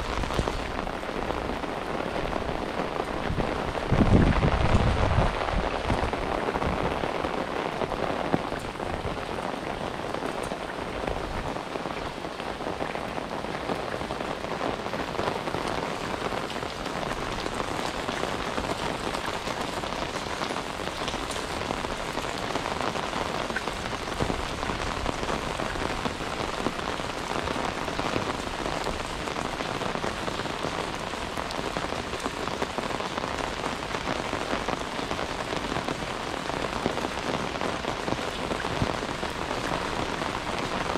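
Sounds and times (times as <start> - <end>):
raindrops ticking: 0.0 - 40.9
steady rain falling: 0.0 - 40.9.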